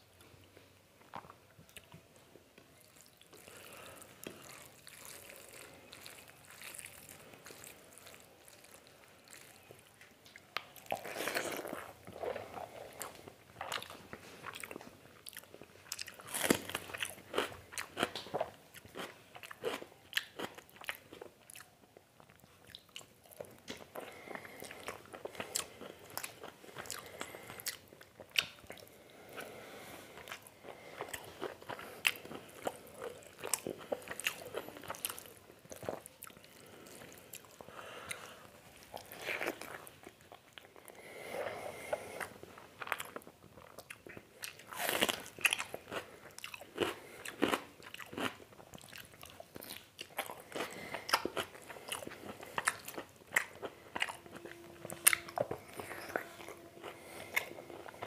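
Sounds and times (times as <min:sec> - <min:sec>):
wet chewing with mouth clicks: 0:00.2 - 0:58.0.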